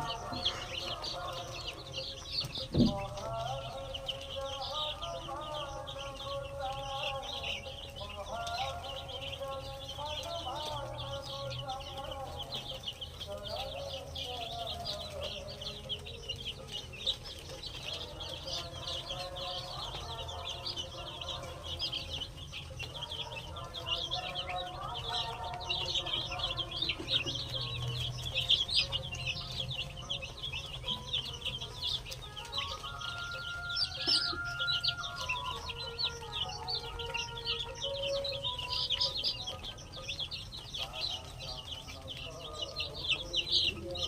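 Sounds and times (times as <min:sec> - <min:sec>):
chickens clucking: 0:00.0 - 0:44.0
drawn-out chicken call: 0:00.0 - 0:44.0.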